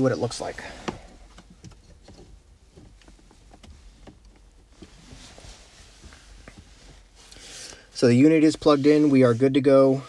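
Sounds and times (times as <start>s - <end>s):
hands rustling gear: 0.0s - 9.6s.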